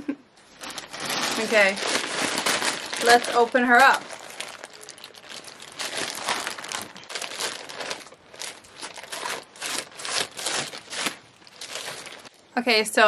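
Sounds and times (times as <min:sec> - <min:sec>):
plastic bag crinkling: 0:00.5 - 0:12.4.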